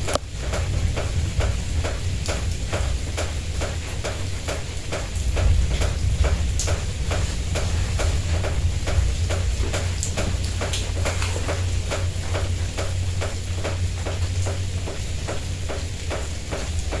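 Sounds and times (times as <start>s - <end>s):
dripping taps: 0.0s - 17.0s
steady rain: 0.0s - 17.0s.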